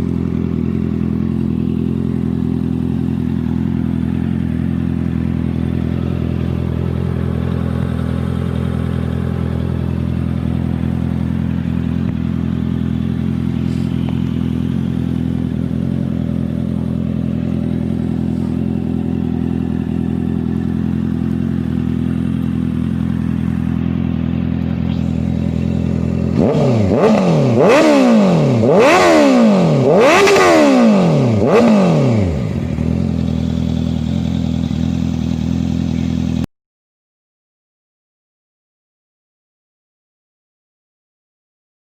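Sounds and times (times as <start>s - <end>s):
motorcycle engine idling: 0.0s - 36.5s
motorcycle throttle blips: 0.0s - 36.5s.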